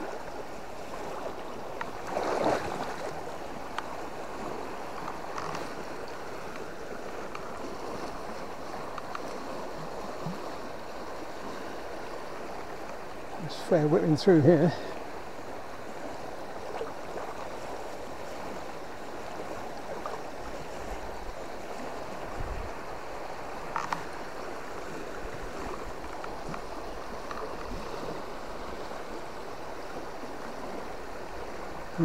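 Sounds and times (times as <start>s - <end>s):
river current rushing: 0.0s - 32.0s.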